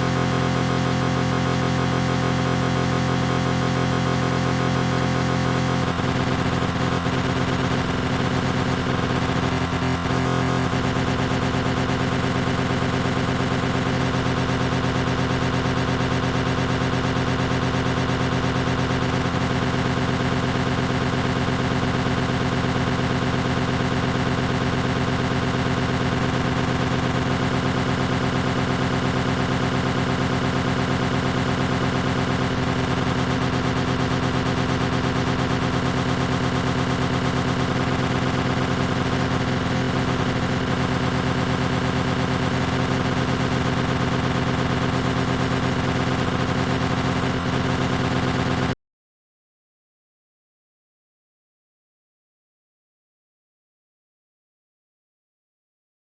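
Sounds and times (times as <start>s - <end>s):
electric lawn mower running: 0.0s - 48.7s.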